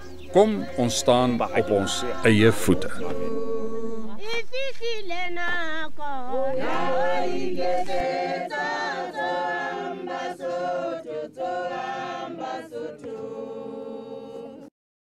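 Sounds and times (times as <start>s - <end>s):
women singing in chorus: 0.0s - 14.7s.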